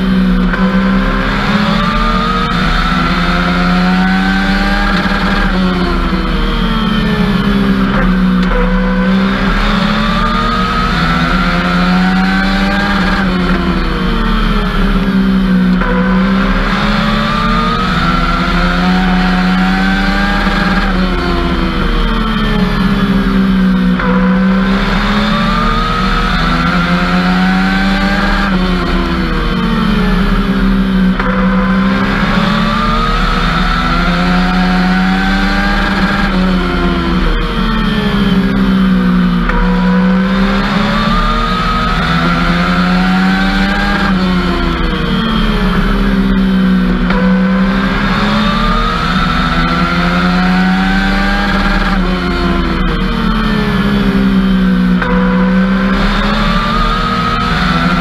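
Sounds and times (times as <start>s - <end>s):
race car engine under load: 0.0s - 58.0s.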